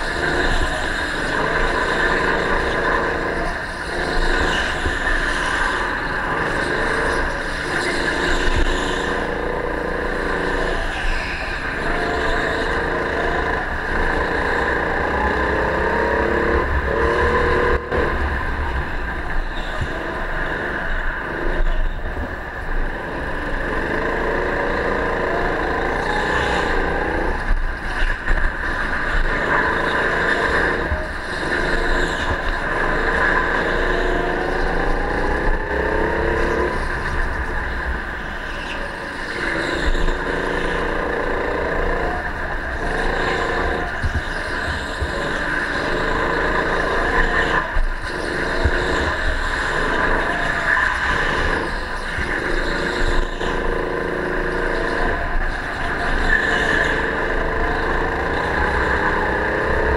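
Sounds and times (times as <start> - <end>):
go-kart motor revving: 0.0 - 59.9
high-pitched drone: 0.0 - 59.9.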